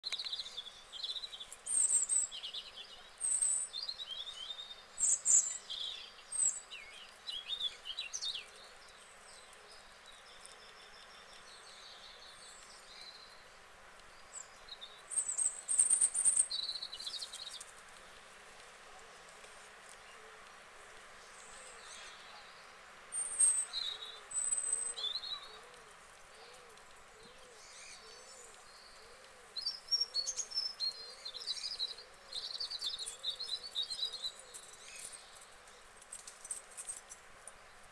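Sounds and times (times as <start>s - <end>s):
birds chirping and singing: 0.1s - 18.2s, 21.2s - 37.1s.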